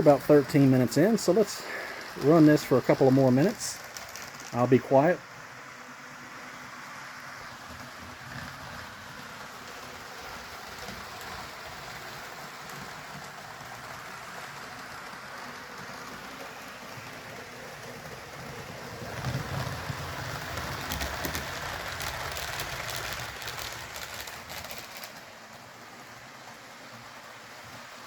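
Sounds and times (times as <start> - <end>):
model train rumbling and clicking: 0.0 - 28.0
model train running on track: 0.0 - 28.0.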